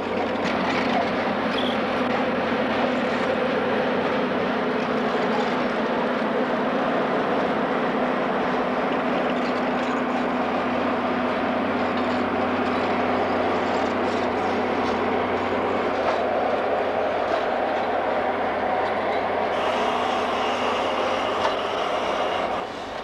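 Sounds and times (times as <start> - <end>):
diesel locomotive engine drone: 0.0 - 23.0
railcars rolling on rails: 0.0 - 23.0.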